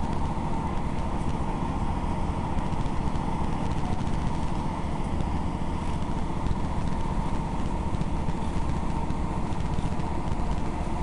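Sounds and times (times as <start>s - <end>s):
constant whine: 0.0s - 11.0s
train wheels rumbling on track: 0.0s - 11.0s.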